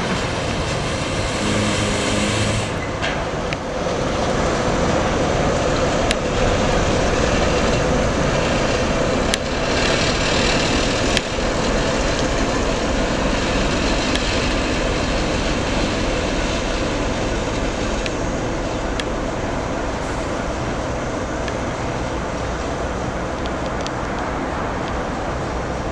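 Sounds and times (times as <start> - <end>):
diesel locomotive engine running: 0.0 - 25.9.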